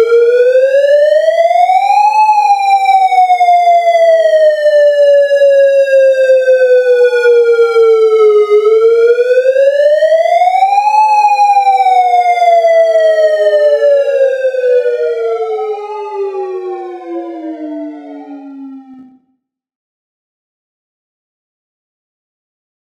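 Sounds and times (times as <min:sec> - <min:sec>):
electronic siren wail: 0:00.0 - 0:19.4.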